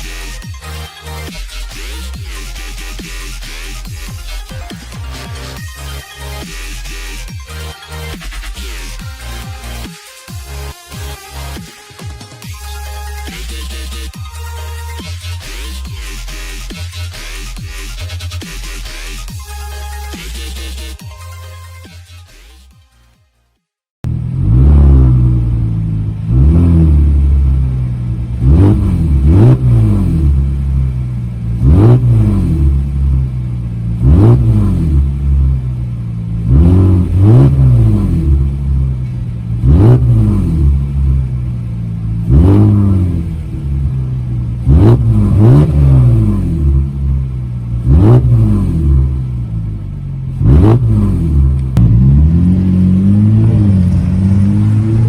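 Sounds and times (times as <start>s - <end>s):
car engine revving in blips: 0.0s - 22.6s, 24.0s - 55.0s.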